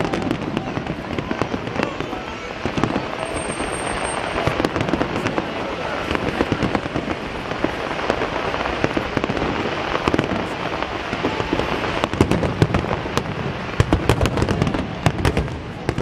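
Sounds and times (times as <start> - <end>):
firework crackle: 0.0 - 16.0.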